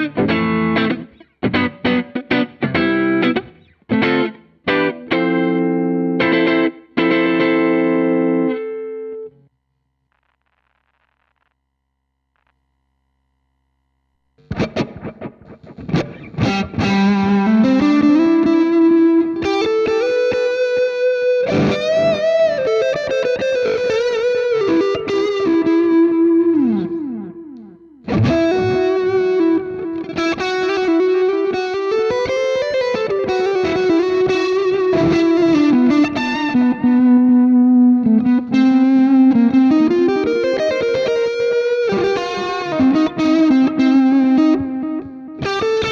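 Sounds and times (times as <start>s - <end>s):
overdriven electric guitar lead: 0.0s - 9.4s, 14.4s - 45.9s.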